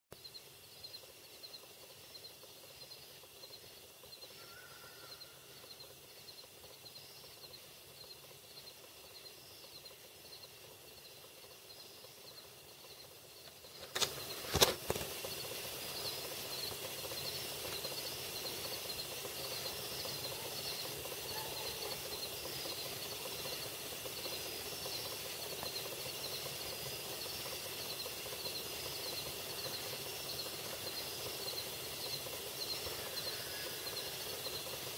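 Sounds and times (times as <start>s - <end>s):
microphone hiss: 0.1s - 34.9s
high rapid chirping: 5.1s - 34.9s.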